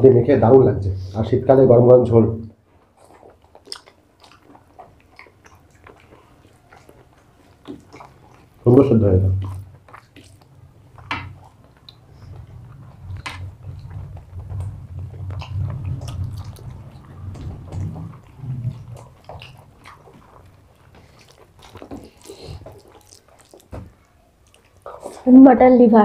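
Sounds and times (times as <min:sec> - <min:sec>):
muffled chewing: 0:02.4 - 0:26.0
wet mouth clicks and smacks: 0:03.0 - 0:08.6, 0:09.4 - 0:25.2.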